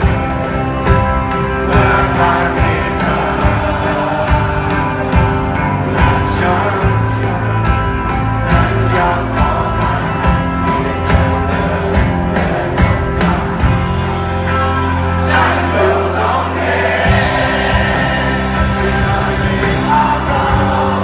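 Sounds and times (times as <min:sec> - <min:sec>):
steady drum beat: 0:00.0 - 0:21.0
sustained instrumental chords: 0:00.0 - 0:21.0.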